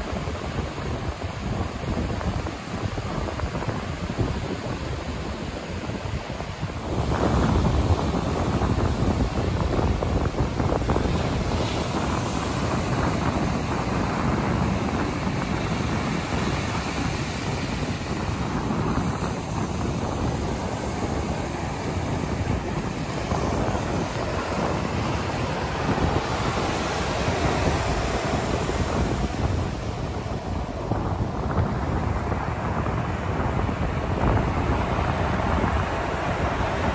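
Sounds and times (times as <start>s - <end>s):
surf breaking on sand: 0.0s - 36.9s
wind buffeting microphone: 0.0s - 36.9s.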